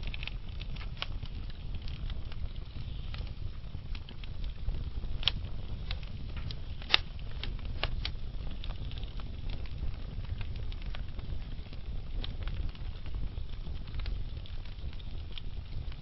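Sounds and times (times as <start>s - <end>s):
fire crackles and pops: 0.0s - 16.0s
fire rumble: 0.0s - 16.0s.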